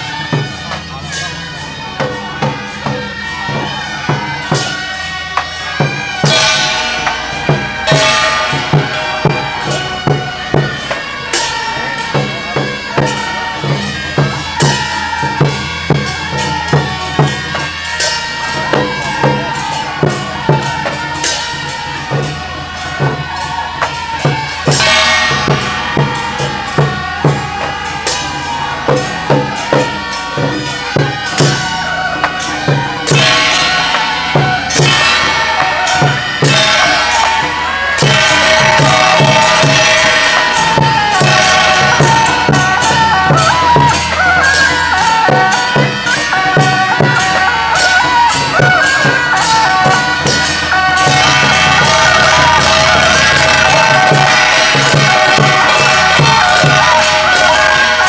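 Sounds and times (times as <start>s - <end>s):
clashing cymbals: 0.0s - 58.0s
steady drum beat: 0.0s - 58.0s
shrill double-reed horn melody: 3.1s - 19.9s, 22.7s - 58.0s.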